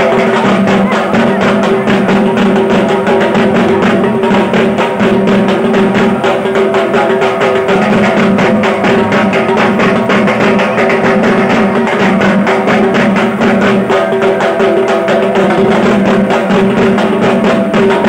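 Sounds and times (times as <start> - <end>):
fast steady drumming: 0.0 - 18.0.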